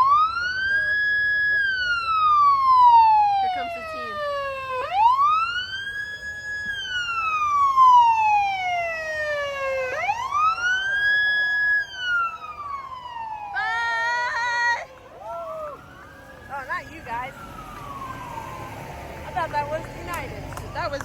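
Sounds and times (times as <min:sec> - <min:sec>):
emergency siren wailing: 0:00.0 - 0:21.0.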